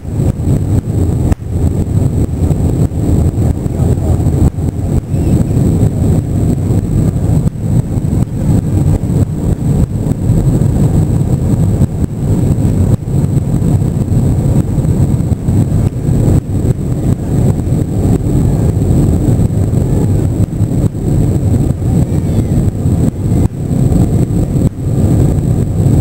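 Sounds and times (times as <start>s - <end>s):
faint high whine: 0.0s - 26.0s
jet engine cabin rumble: 0.0s - 26.0s.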